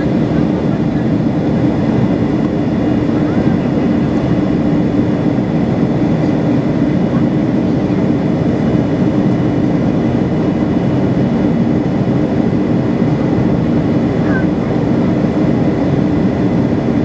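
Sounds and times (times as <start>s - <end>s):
airplane engine and airflow roar: 0.0s - 17.0s.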